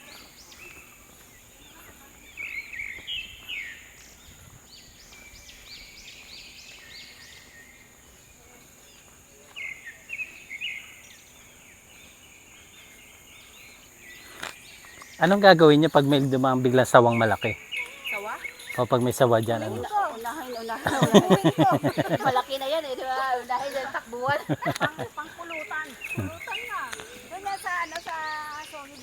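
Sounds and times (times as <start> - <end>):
high insect drone: 0.0 - 29.0
wild birds chirping: 0.0 - 29.0.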